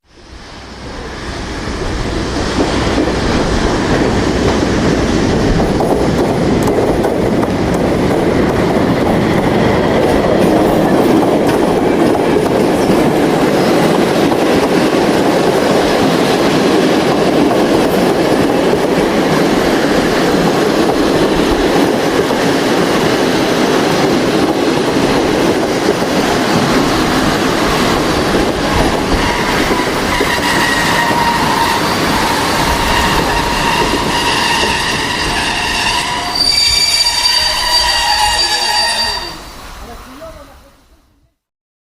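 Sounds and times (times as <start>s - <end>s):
train rumbling on rails: 0.0s - 41.2s
wheels clacking over rail joints: 2.4s - 39.2s.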